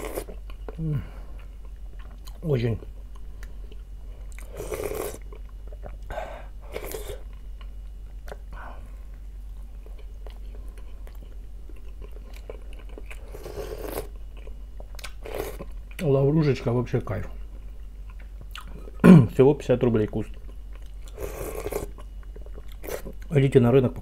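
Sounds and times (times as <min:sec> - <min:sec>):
person chewing: 0:00.0 - 0:16.1, 0:17.6 - 0:19.0, 0:20.3 - 0:23.3.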